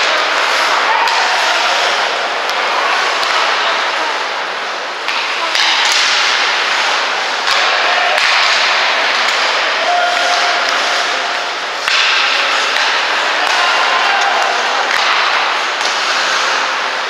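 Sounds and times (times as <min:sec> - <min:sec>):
stick hitting puck: 0:00.0 - 0:03.8, 0:05.0 - 0:17.0
skates scraping on ice: 0:00.0 - 0:17.0.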